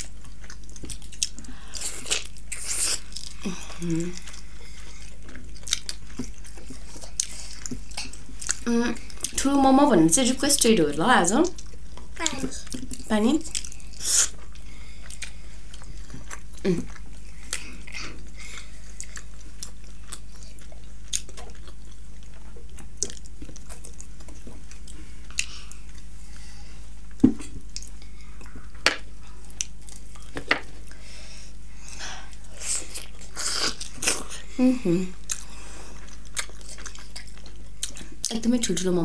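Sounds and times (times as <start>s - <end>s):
people chewing food: 0.0s - 39.0s
steady low hum: 0.0s - 39.0s.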